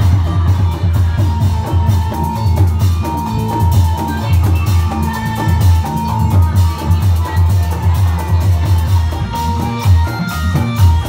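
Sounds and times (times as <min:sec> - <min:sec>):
drums driving beat: 0:00.0 - 0:11.0.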